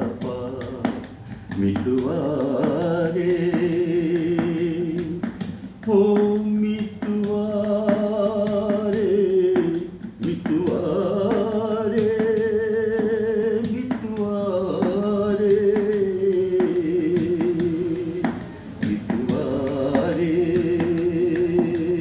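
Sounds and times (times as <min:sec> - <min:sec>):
man singing with vibrato: 0:00.0 - 0:22.0.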